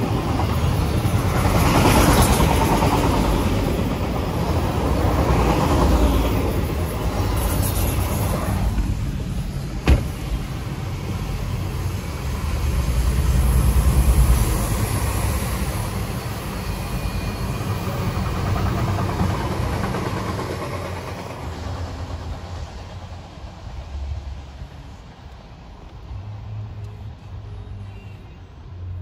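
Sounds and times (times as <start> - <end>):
freight train wheels rumbling: 0.0 - 27.7.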